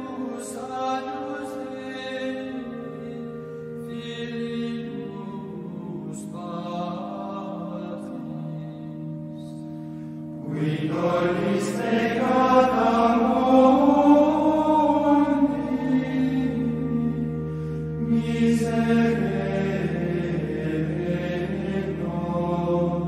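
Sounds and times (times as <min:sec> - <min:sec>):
chanted singing: 0:00.0 - 0:09.7, 0:10.4 - 0:23.0
low drone: 0:01.1 - 0:23.0.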